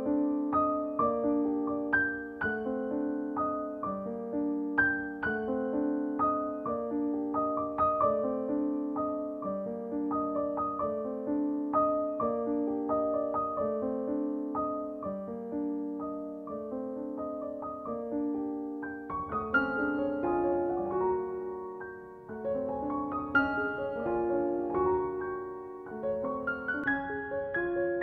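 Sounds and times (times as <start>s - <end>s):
slow gentle piano music: 0.0s - 28.0s.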